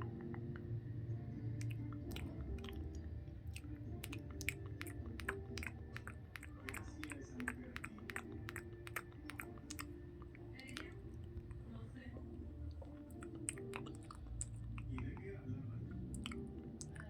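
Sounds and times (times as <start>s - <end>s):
close-miked chewing: 0.0s - 17.0s
wet mouth clicks and smacks: 1.6s - 11.6s, 12.7s - 17.0s.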